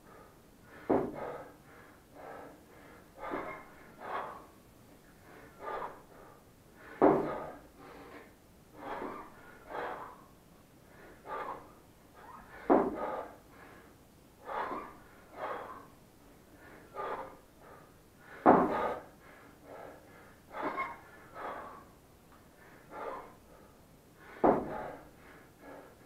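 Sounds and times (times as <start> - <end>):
man breathing hard: 0.0 - 26.0.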